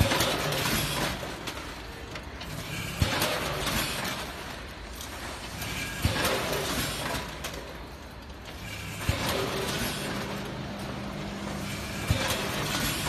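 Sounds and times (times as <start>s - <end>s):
packing machine clatter: 0.0s - 13.0s.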